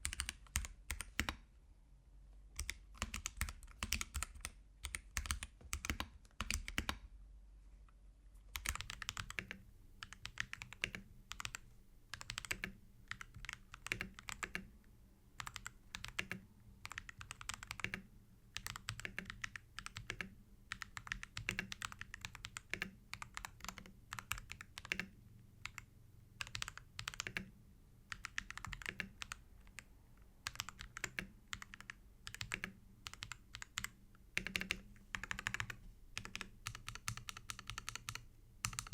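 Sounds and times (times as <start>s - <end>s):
typing on mechanical keyboard: 0.0s - 1.4s, 2.6s - 7.0s, 8.5s - 14.7s, 15.4s - 27.5s, 28.1s - 38.9s.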